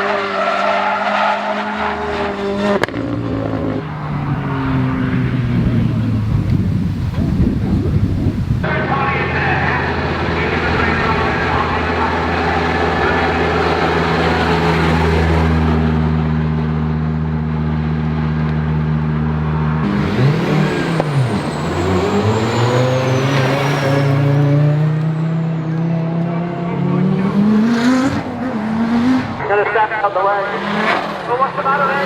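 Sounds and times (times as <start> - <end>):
rally car engine: 0.0 - 32.0.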